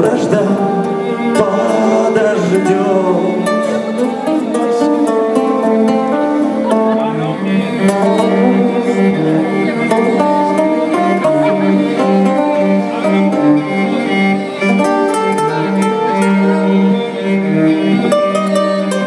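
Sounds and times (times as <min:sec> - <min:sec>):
bowed violin melody: 0:00.0 - 0:19.0
electric guitar riff: 0:00.0 - 0:19.0.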